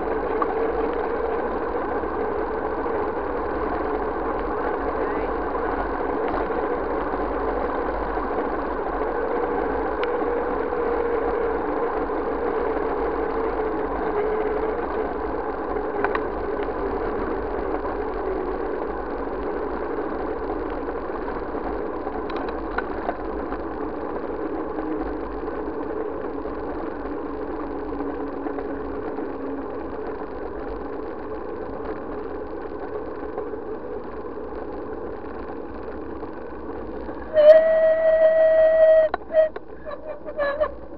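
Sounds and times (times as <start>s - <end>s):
bike rolling on paved road: 0.0s - 40.9s.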